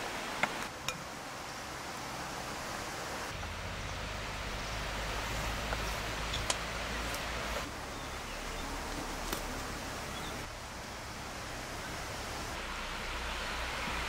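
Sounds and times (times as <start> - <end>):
hissing outdoor background noise: 0.0 - 14.0.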